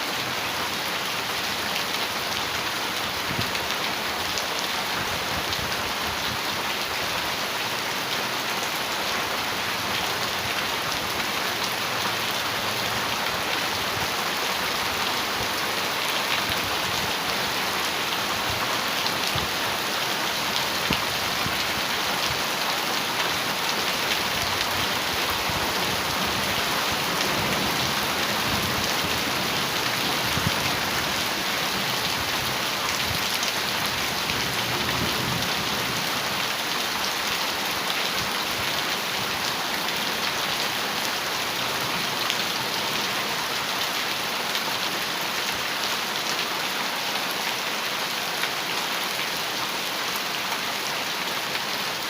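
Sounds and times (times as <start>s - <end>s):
heavy rain on a metal roof: 0.0s - 52.0s.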